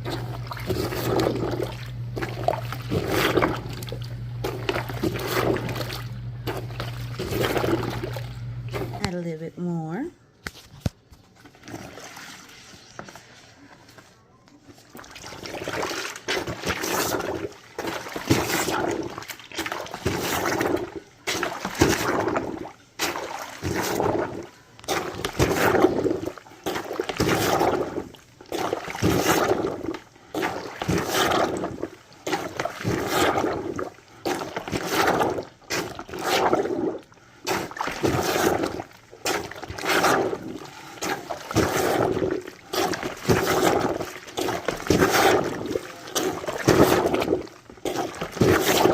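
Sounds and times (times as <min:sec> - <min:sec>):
plunger sloshing in soapy water: 0:00.0 - 0:09.2, 0:11.2 - 0:48.9.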